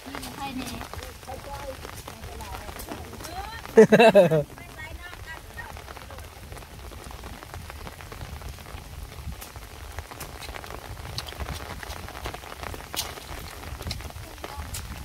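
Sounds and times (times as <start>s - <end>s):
light rain on water: 0.0s - 15.0s.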